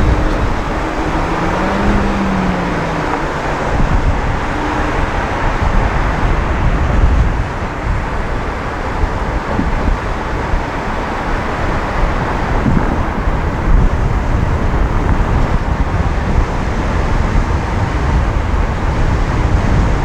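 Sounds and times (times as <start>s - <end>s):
faint engine hum: 0.0s - 20.0s
road noise with low rumble: 0.0s - 20.0s.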